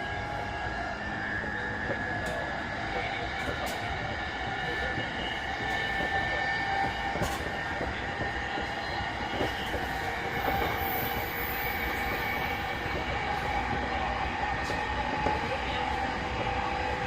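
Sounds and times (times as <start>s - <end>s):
wheel-on-rail noise: 0.2s - 17.0s.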